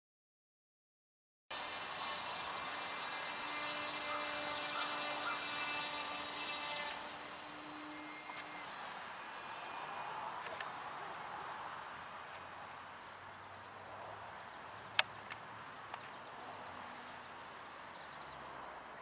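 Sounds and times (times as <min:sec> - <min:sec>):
model plane motor whine: 0:01.5 - 0:19.0.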